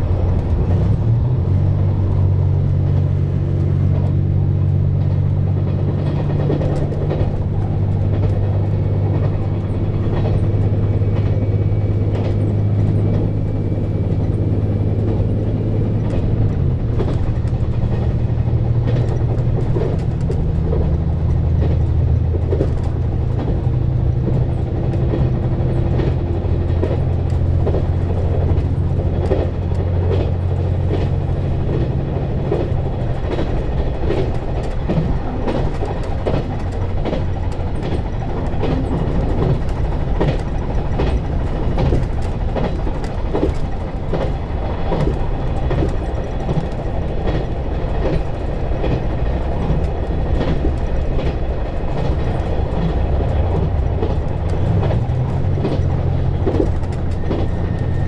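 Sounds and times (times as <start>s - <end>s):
diesel engine drone: 0.0s - 58.0s
wheels clattering over rail joints: 0.0s - 58.0s.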